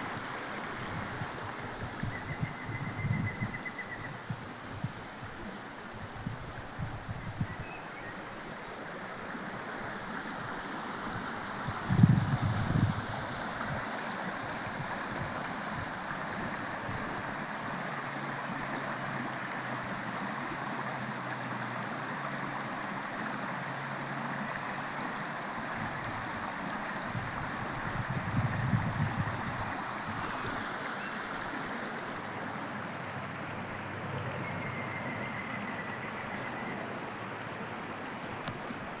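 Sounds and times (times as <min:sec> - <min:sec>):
running water rushing: 0:00.0 - 0:02.5, 0:07.8 - 0:34.6, 0:35.5 - 0:39.0.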